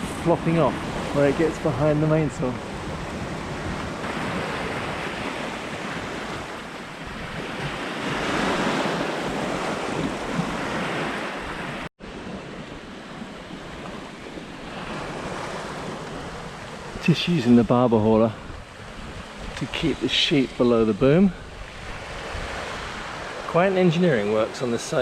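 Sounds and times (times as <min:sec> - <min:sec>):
wind on the microphone: 0:00.0 - 0:23.4
water rushing along a hull: 0:00.0 - 0:25.0.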